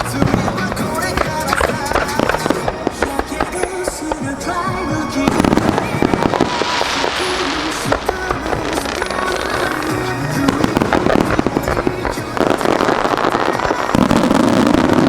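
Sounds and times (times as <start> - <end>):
fireworks bursting and crackling: 0.0 - 15.0
fizzing hiss: 0.0 - 15.0
music over loudspeakers: 0.0 - 15.0.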